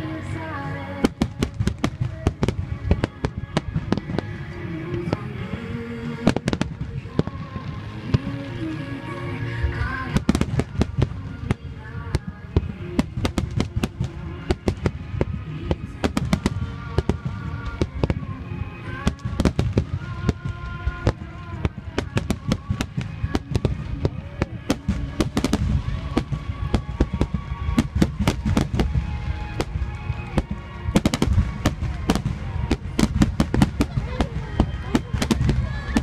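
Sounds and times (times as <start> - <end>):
fireworks bangs and crackles: 0.0 - 36.0
low rumble: 0.0 - 36.0
sustained music-like tones: 0.0 - 36.0.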